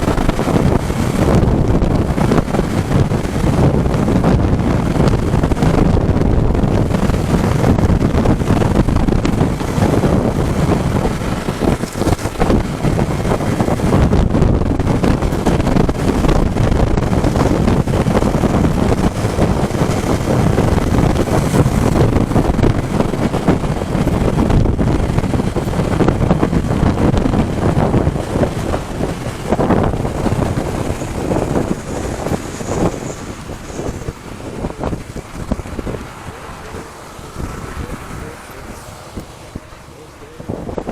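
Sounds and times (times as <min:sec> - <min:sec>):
motorcycle engine: 0:00.0 - 0:40.9
wind buffeting microphone: 0:00.0 - 0:40.9.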